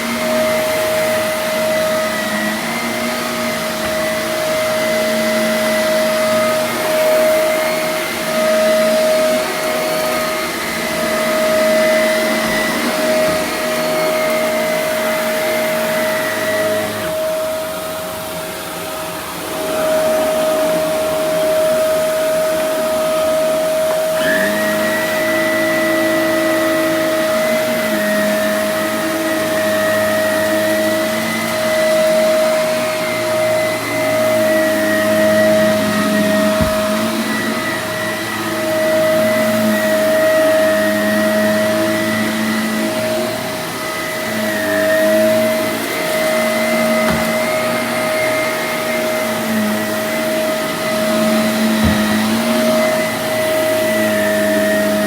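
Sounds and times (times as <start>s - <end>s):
vacuum cleaner motor hum: 0.0s - 55.0s.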